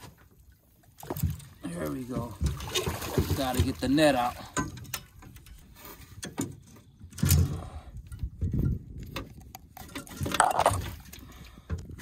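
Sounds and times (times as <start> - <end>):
fishing gear clicking and rattling: 1.0 - 12.0.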